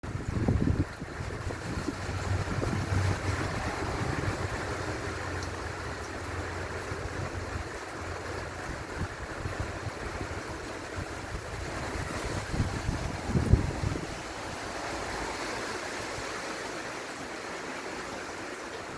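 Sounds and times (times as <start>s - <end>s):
rain falling: 0.0s - 18.9s
wind rumbling on microphone: 0.0s - 18.9s.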